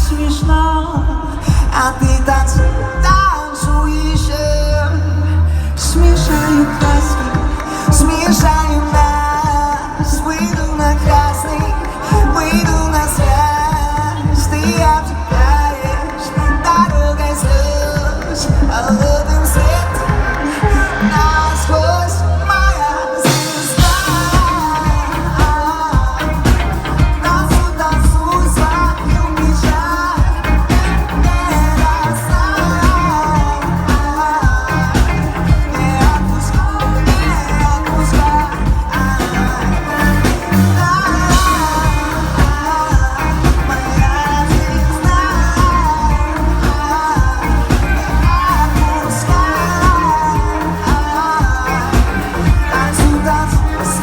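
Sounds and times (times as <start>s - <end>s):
steady beat: 0.0s - 4.4s, 6.2s - 21.8s, 23.2s - 54.0s
man singing pop song: 0.0s - 54.0s.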